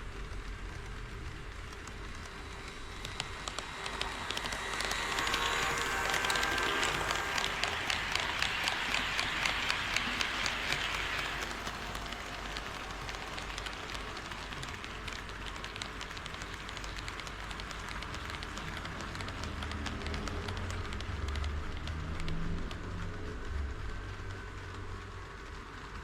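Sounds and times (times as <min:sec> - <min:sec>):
model train wheels clicking on rails: 0:00.0 - 0:26.0.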